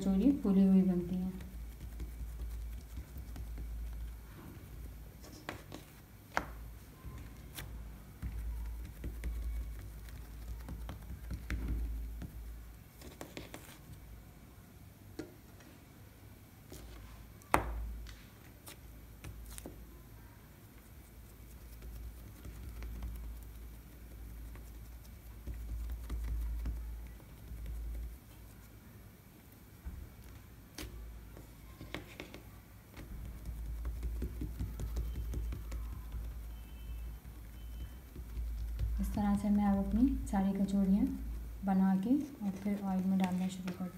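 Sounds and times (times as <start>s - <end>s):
fingertips patting dough on wood: 0.0s - 14.0s, 16.7s - 19.9s, 20.8s - 28.4s, 29.8s - 43.9s.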